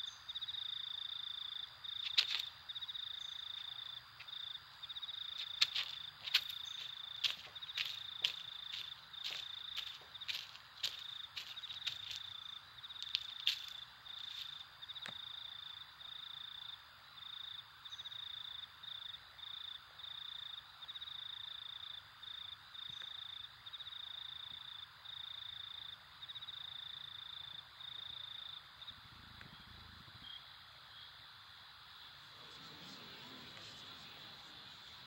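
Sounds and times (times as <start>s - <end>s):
cricket chirping: 0.0s - 35.0s.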